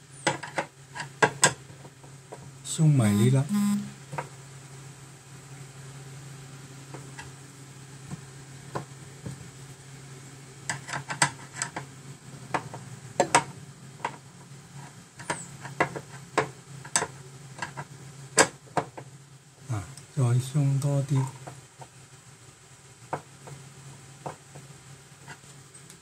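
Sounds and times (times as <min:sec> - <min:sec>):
steady low hum: 0:01.6 - 0:26.0.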